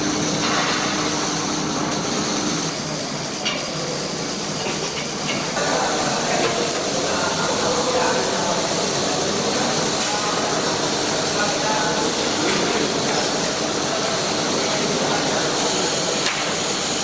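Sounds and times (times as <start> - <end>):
welding arc hissing and crackling: 0.0 - 17.0.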